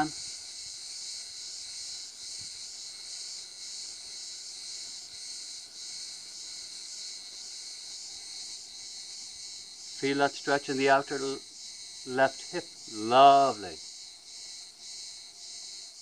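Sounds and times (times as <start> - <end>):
cicadas chorus: 0.0 - 16.0.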